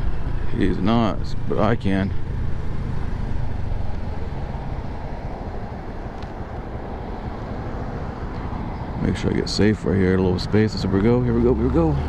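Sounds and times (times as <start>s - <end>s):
wind and road rush: 0.0s - 12.0s.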